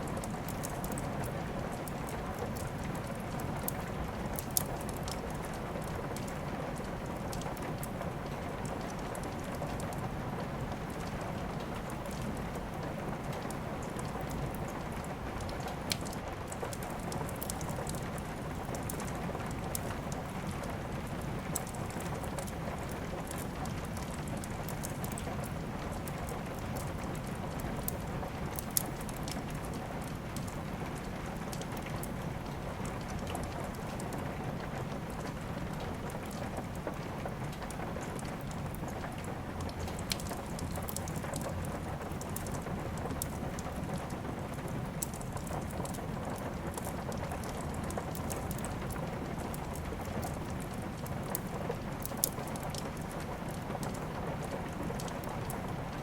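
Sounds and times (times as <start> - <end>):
steady rain falling: 0.0 - 56.0
wood fire crackling and popping: 0.0 - 56.0.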